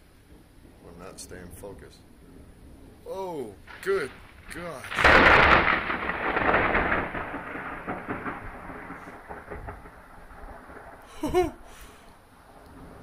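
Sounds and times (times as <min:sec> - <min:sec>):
thunderclap rumbling: 0:00.0 - 0:13.0.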